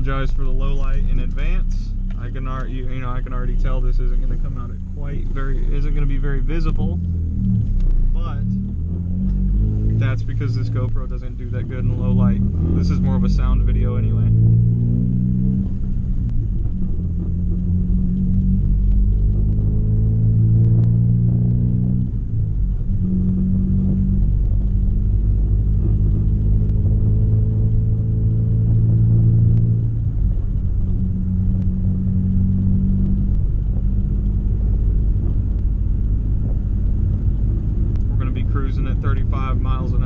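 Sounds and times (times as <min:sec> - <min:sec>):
car engine drone from inside cabin: 0:00.0 - 0:40.0.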